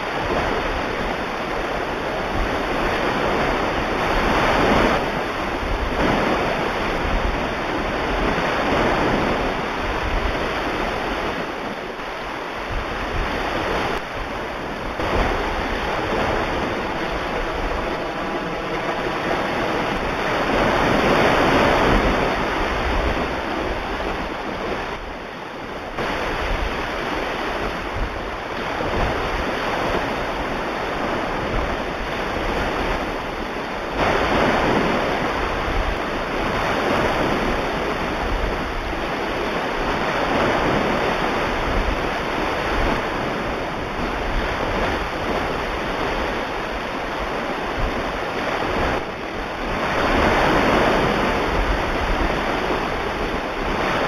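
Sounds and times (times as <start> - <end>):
ocean waves washing: 0.0 - 54.0.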